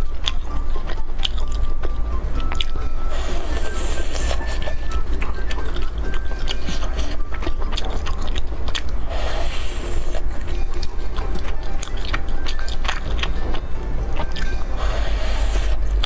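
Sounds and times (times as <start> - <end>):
chewing grilled meat: 0.0 - 16.0.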